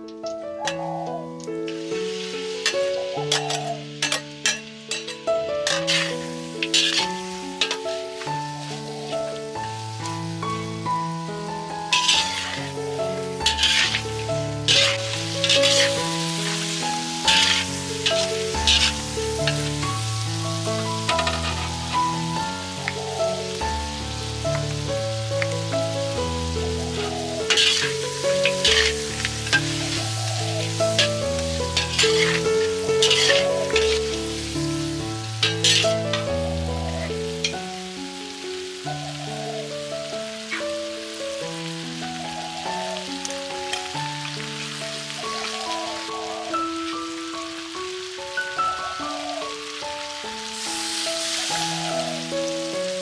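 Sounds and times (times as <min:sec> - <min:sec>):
background music: 0:00.0 - 0:53.0
food sizzling in a pan: 0:00.8 - 0:53.0.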